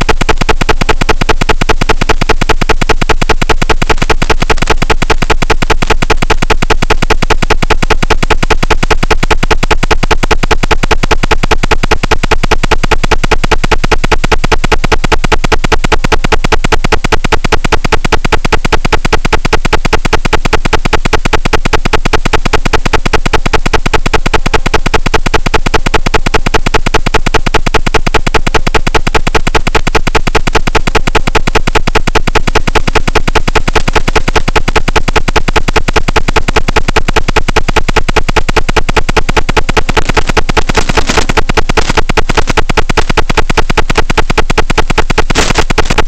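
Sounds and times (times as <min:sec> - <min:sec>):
buzzing static: 0:00.0 - 0:46.0.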